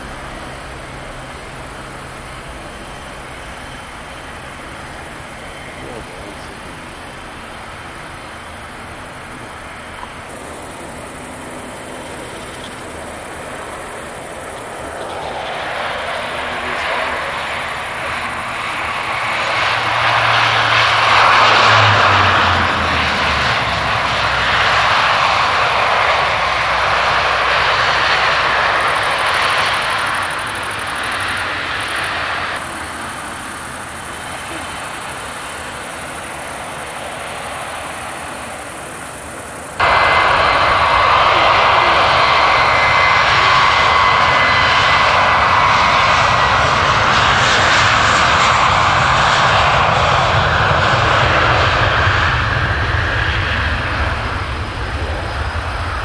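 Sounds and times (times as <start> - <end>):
airliner engines roaring: 0.0 - 56.0
turboprop propeller hum: 0.0 - 56.0.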